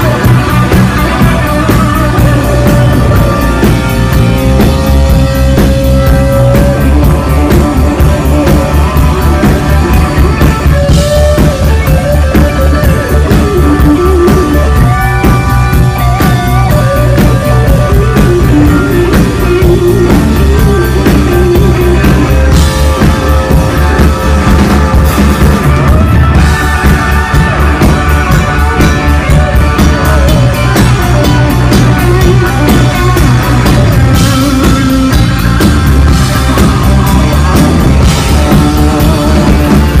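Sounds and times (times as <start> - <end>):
electric guitar lead lines: 0.0 - 40.0
rock band playing: 0.0 - 40.0.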